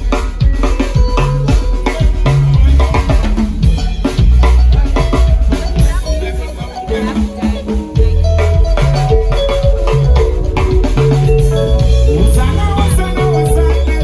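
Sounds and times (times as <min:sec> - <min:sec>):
drum kit kick and snare: 0:00.0 - 0:14.0
rumba band playing live: 0:00.0 - 0:14.0.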